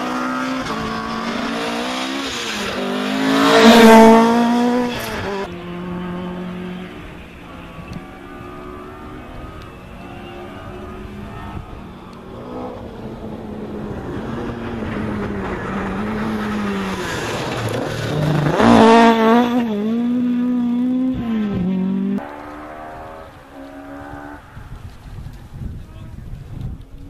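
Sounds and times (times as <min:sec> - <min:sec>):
rally car engine revving: 0:00.0 - 0:24.7.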